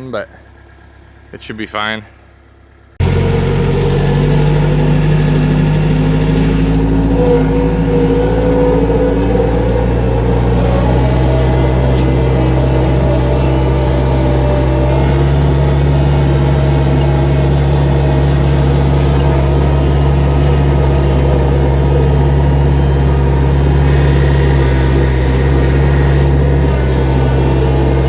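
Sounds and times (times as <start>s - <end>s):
skid steer engine running: 2.2s - 28.0s.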